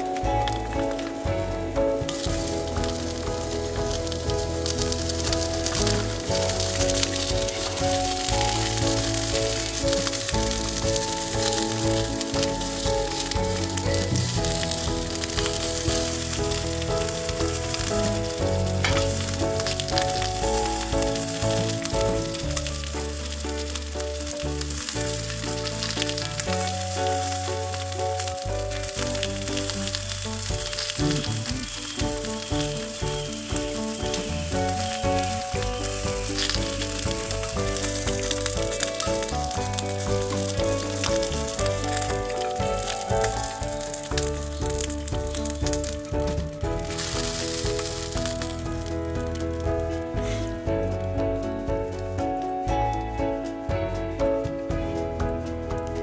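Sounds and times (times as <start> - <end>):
background music: 0.0 - 56.0.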